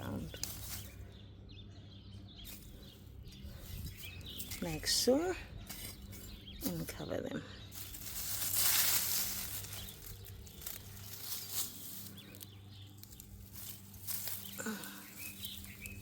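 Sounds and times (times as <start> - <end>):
soil being scraped: 2.5 - 7.0, 7.7 - 16.0.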